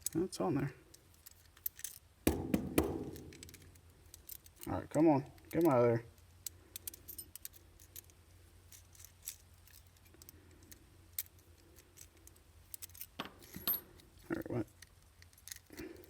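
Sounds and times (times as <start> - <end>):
small metallic clicks and scrapes: 0.0 - 2.1, 2.9 - 16.0.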